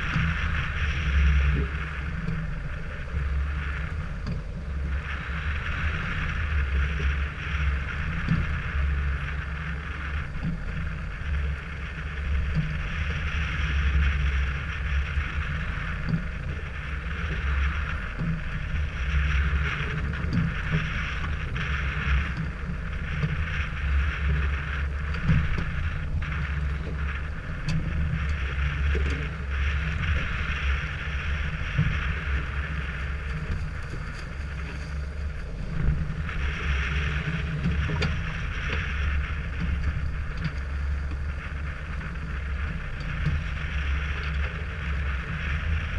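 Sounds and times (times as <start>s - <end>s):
motorboat engine drone: 0.0s - 45.9s
wind and water rushing: 0.0s - 45.9s.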